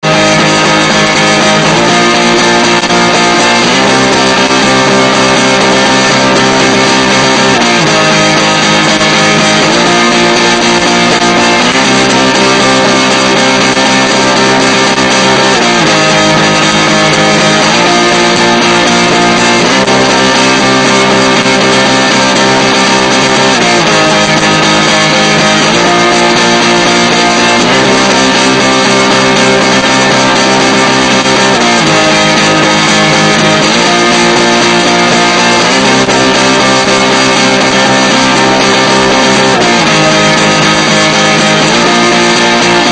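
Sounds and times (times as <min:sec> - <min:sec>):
loud strummed guitar music: 0:00.0 - 0:42.9.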